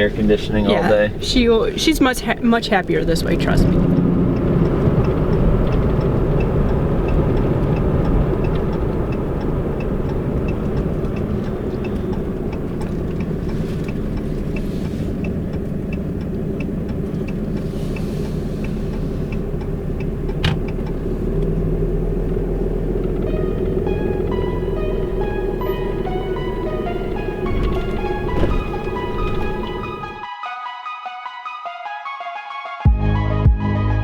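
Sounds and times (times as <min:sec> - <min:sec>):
vehicle engine and road rumble: 0:00.0 - 0:30.2
faint regular ticking: 0:01.1 - 0:30.2.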